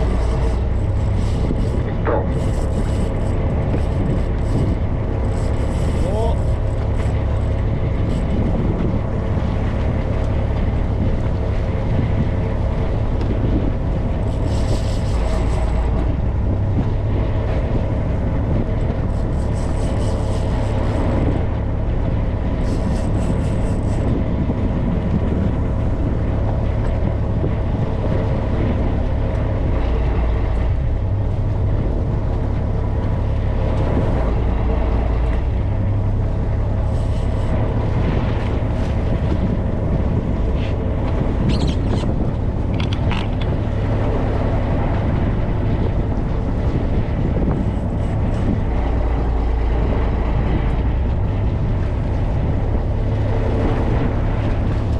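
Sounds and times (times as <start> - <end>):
boat engine rumbling: 0.0 - 54.9
wind on microphone: 0.0 - 54.9.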